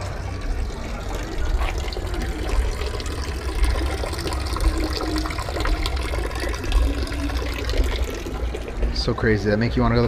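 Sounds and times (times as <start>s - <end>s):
water splashing into stone basin: 0.0s - 9.0s
water pouring from fountain spout: 0.0s - 9.4s.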